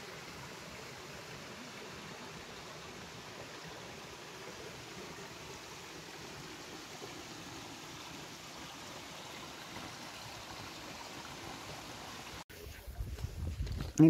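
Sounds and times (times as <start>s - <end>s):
stream running over rocks: 0.0s - 12.4s.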